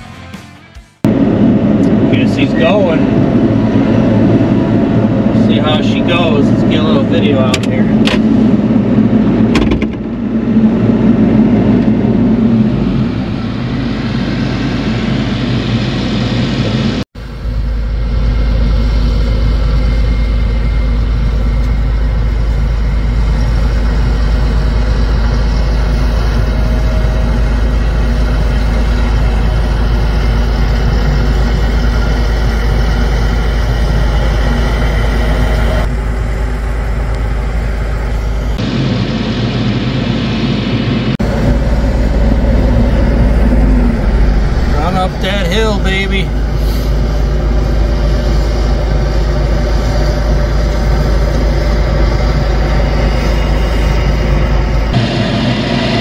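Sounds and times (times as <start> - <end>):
heavy engine running: 0.0 - 56.0.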